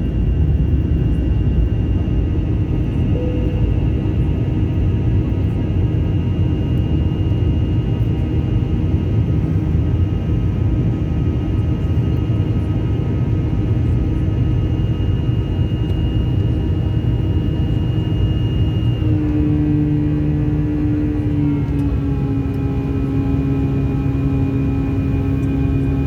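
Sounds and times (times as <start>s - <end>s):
jet engine rumble and whine: 0.0s - 26.0s.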